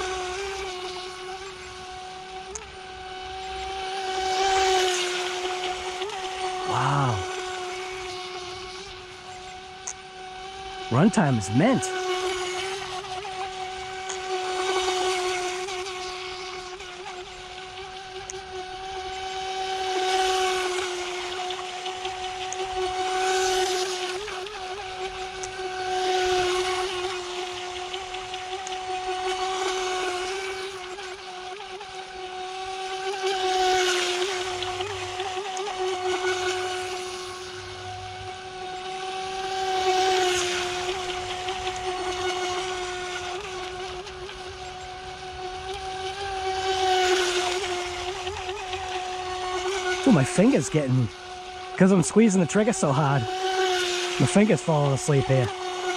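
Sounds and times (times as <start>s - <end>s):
electric motor whining: 0.0s - 55.9s.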